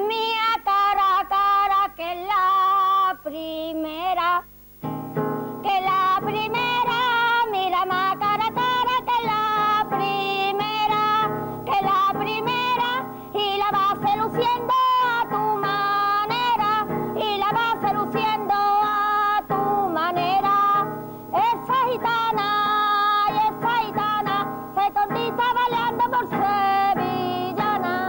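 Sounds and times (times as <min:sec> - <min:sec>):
woman singing: 0:00.0 - 0:04.5, 0:05.6 - 0:28.0
acoustic guitar: 0:03.6 - 0:28.0.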